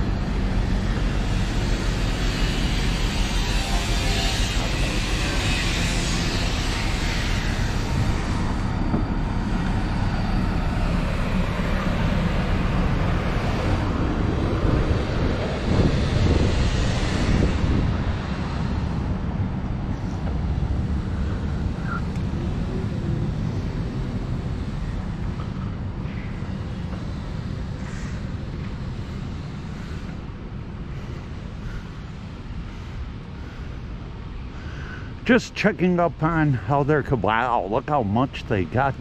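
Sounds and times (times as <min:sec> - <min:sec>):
wind rumbling on microphone: 0:00.0 - 0:35.3.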